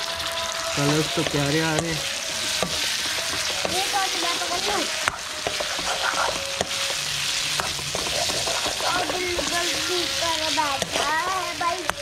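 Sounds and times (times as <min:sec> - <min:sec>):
food sizzling in a pan: 0:00.0 - 0:12.0
spatula scraping a pan: 0:00.7 - 0:11.5.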